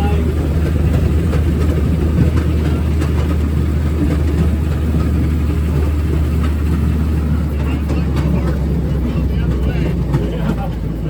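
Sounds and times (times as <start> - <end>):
rail speeder engine drone: 0.0 - 11.0.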